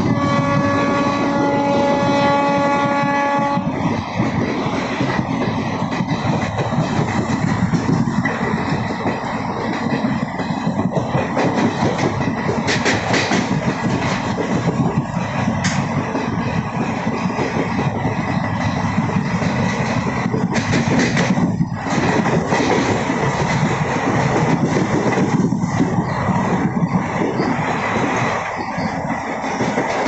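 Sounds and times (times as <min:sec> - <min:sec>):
train coach rumbling: 0:00.0 - 0:30.0
wheel and rail clatter: 0:00.0 - 0:30.0.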